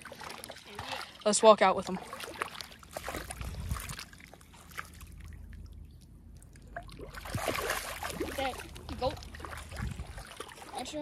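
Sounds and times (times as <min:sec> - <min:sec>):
people wading through shallow water: 0:00.0 - 0:11.0.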